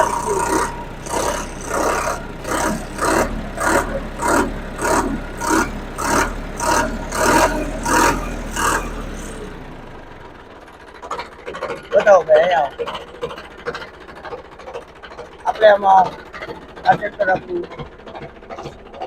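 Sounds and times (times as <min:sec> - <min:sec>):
diesel tractor engine revving: 0:00.0 - 0:19.0.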